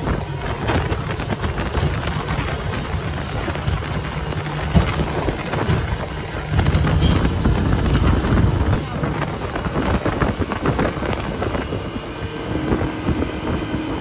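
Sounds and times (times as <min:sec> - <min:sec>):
outboard motor running: 0:00.0 - 0:14.0
water rushing past hull: 0:00.0 - 0:14.0
wind rumble on microphone: 0:00.0 - 0:14.0.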